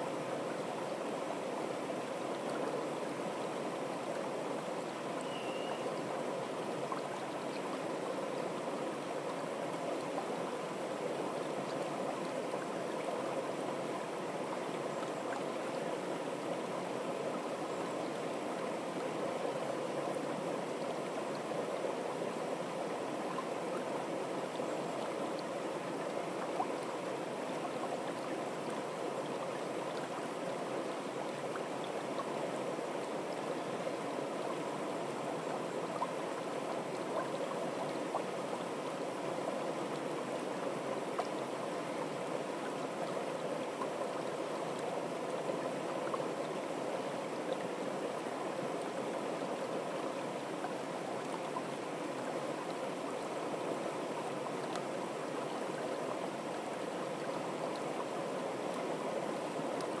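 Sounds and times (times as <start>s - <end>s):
stream burbling: 0.0s - 60.0s.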